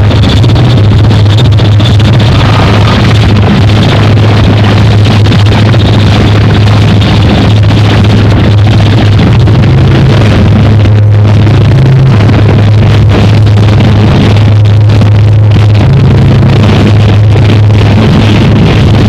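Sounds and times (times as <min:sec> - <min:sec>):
distorted wall of noise: 0:00.0 - 0:19.0
loud low drone: 0:00.0 - 0:19.0.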